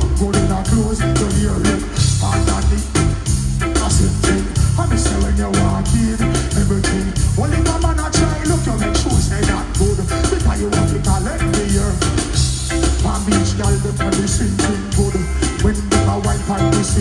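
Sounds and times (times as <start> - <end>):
reggae music with heavy bass: 0.0 - 17.0.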